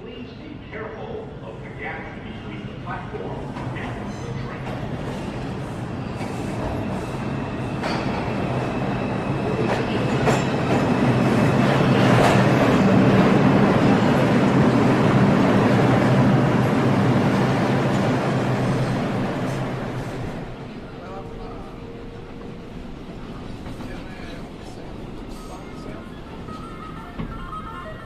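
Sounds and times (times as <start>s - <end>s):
subway train rumbling on rails: 0.0s - 28.0s
rail clacks: 3.4s - 28.0s.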